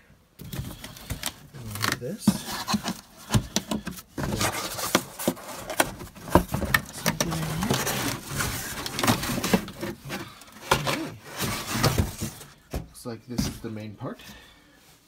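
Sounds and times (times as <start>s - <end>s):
cardboard rustling and scraping: 0.4s - 13.7s.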